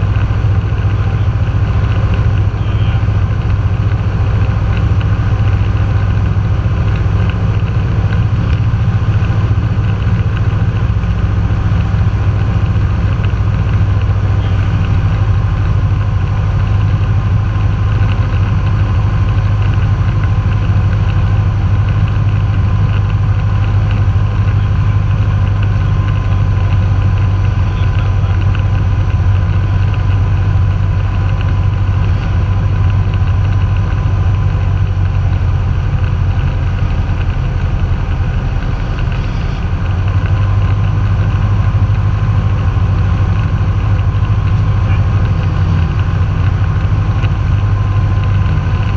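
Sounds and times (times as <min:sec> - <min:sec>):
propeller plane engine humming: 0:00.0 - 0:48.9.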